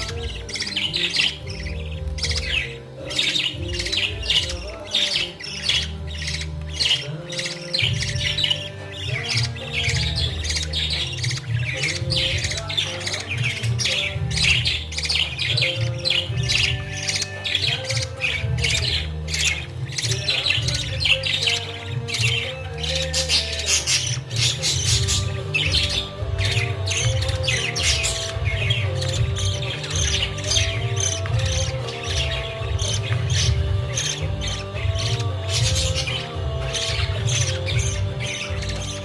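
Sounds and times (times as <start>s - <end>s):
budgerigars squawking and chirping: 0.0s - 39.0s
music with long held notes: 0.0s - 39.0s.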